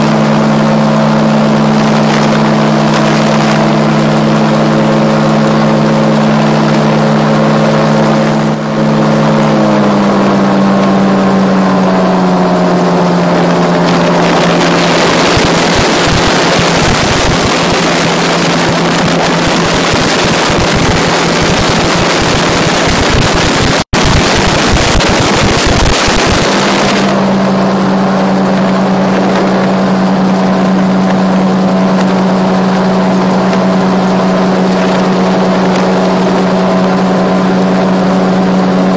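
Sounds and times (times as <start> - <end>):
gyroplane engine: 0.0 - 38.9
wind and rotor noise: 0.0 - 38.9.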